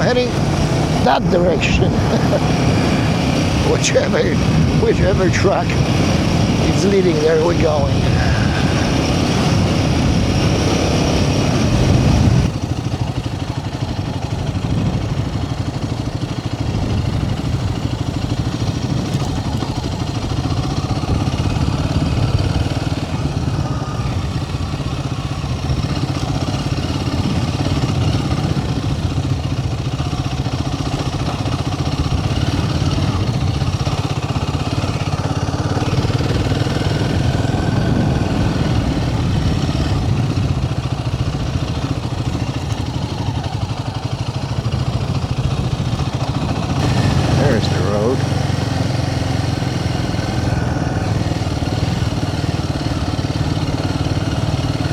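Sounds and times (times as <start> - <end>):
rush of wind noise: 0.0 - 30.2, 31.9 - 54.9
motorcycle engine running: 0.0 - 54.9.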